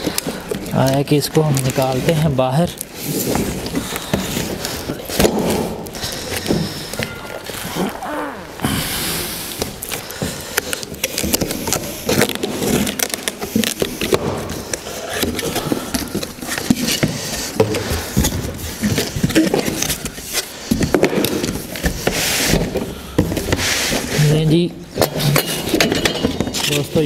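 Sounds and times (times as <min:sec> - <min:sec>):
knocks of packed parts: 0:00.0 - 0:24.2, 0:24.9 - 0:27.0.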